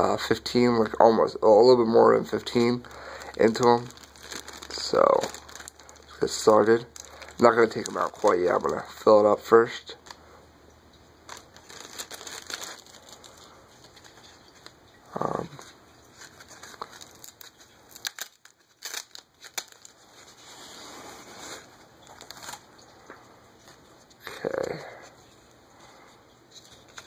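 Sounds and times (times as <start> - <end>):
plastic wrap crinkling: 0.0 - 10.2, 11.2 - 27.0.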